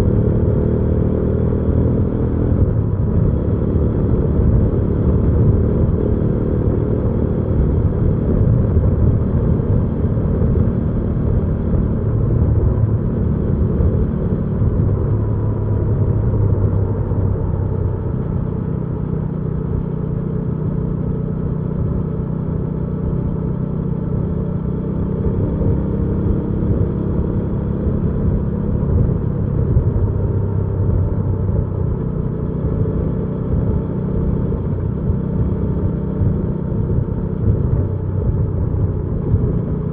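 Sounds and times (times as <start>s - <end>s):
motorcycle engine rumbling: 6.6s - 39.9s.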